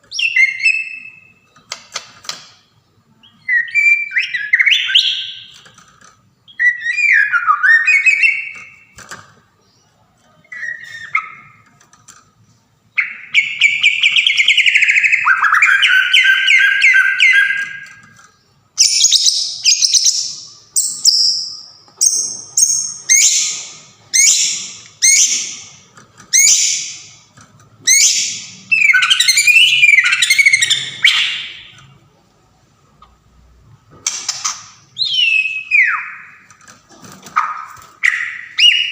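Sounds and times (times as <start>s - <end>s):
bird singing: 0.0s - 1.6s, 2.6s - 5.8s, 6.4s - 9.0s, 9.6s - 11.8s, 12.9s - 27.2s, 27.8s - 32.0s, 34.9s - 36.6s, 37.3s - 38.9s.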